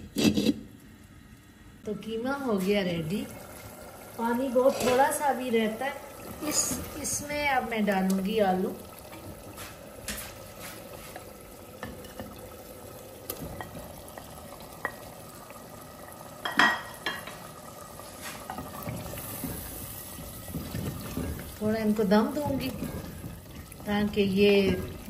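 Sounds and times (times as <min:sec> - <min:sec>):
low steady sizzle: 0:00.0 - 0:25.0
wooden spoon stirring in pot: 0:02.7 - 0:15.7, 0:16.7 - 0:25.0.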